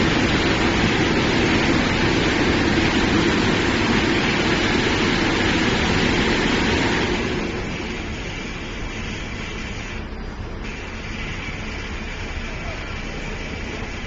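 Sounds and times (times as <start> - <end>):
car wash machine running: 0.0 - 14.0.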